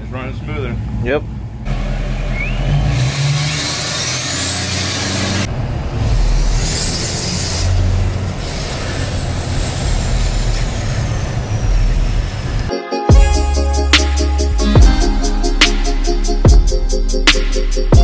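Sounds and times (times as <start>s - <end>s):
truck road and engine rumble: 0.0s - 18.0s.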